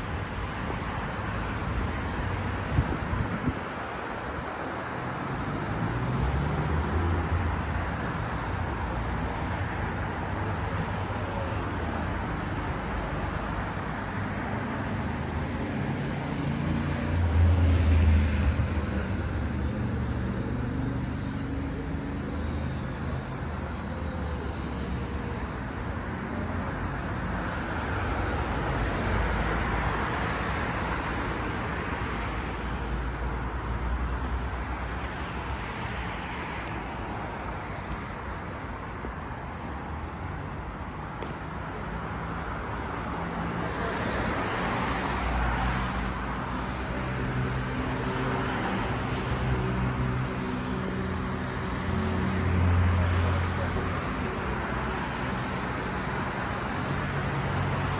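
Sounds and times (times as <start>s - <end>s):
vehicle engines passing: 0.0s - 57.9s.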